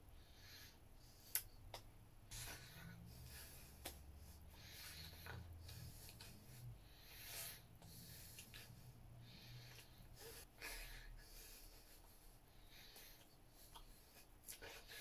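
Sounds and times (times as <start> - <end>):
soft breaths: 0.0 - 15.0.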